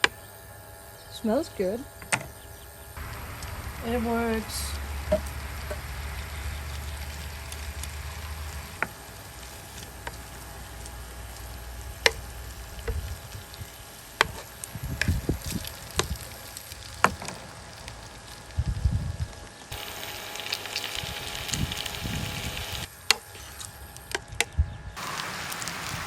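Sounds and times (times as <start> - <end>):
low hum: 1.8 - 22.9
food sizzling in a pan: 3.0 - 24.0, 25.0 - 26.0.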